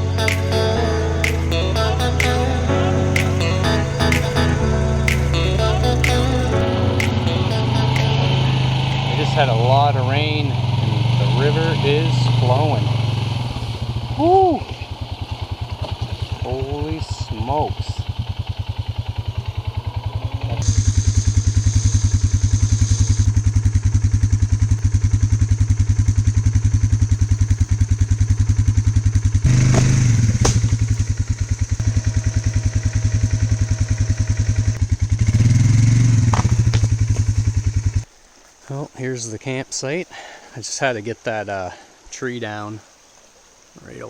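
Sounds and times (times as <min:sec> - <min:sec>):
atv engine running: 0:00.0 - 0:38.1.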